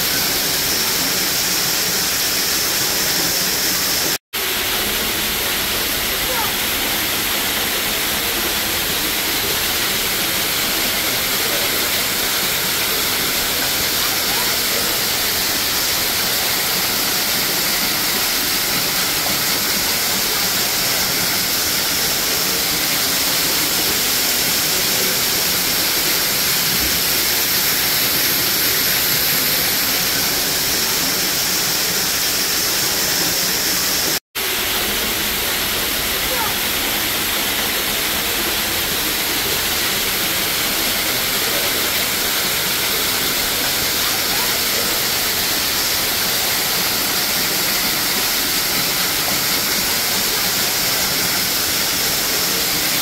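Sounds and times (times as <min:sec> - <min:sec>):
waterfall splashing: 0:00.0 - 0:53.0.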